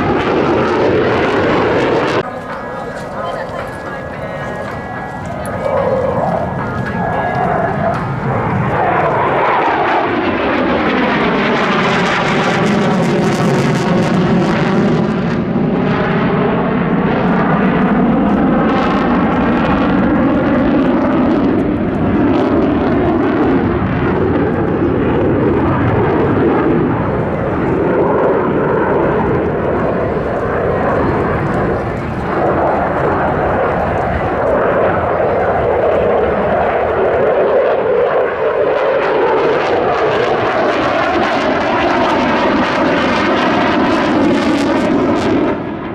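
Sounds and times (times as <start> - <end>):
jet flying past: 0.0 - 45.9.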